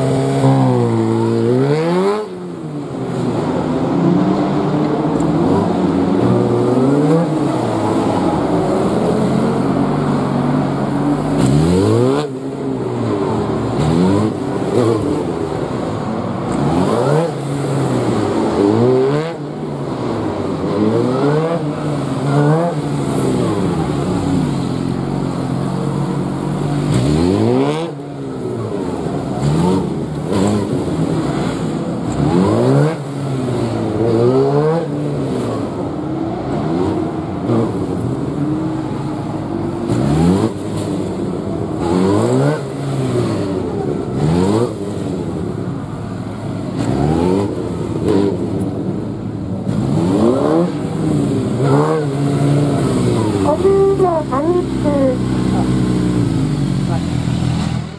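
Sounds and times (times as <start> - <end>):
motorcycle engine revving: 0.0 - 3.7, 4.3 - 35.9, 36.5 - 57.9.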